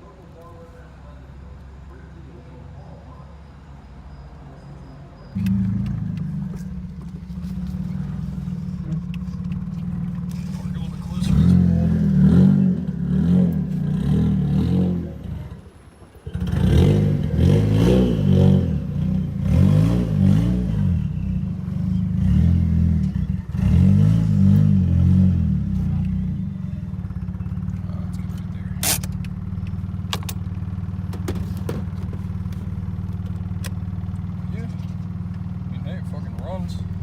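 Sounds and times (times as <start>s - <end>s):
car engine revving unevenly: 0.0s - 37.0s.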